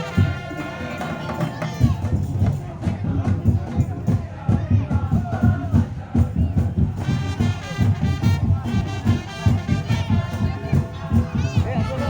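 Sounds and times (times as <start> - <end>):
fast heavy drumming: 0.0 - 12.0.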